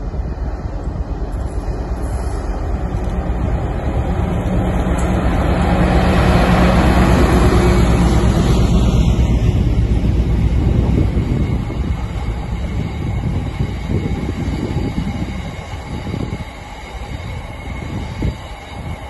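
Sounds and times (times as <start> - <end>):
diesel locomotive engine hum: 0.0 - 19.0.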